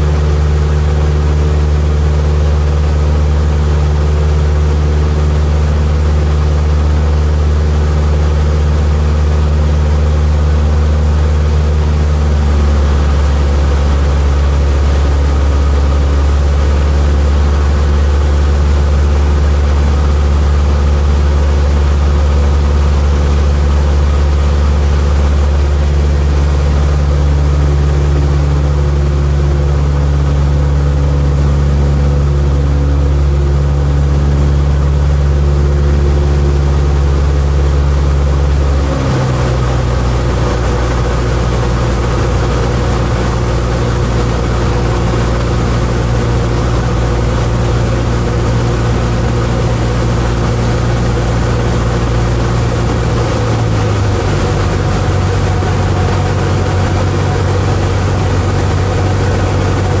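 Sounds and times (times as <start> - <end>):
propeller aircraft engine droning: 0.0 - 60.0.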